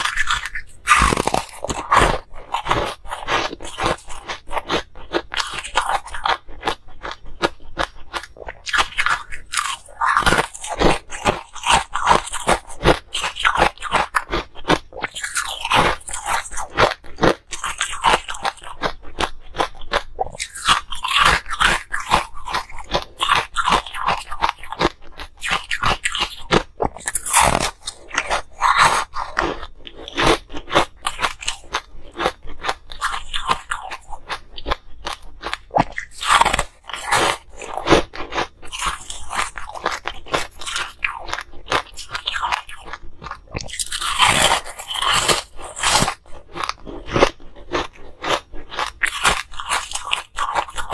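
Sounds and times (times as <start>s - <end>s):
ice crunching between teeth: 0.0s - 50.9s.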